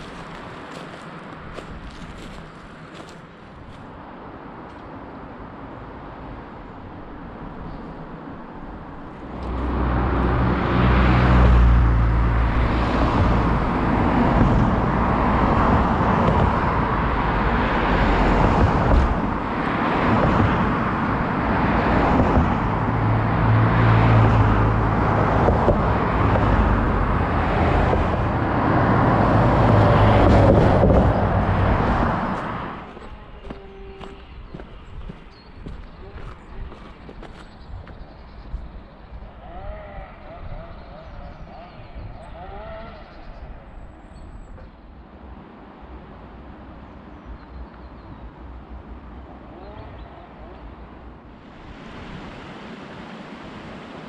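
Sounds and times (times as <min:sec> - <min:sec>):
cars passing close by: 0:00.0 - 0:54.0.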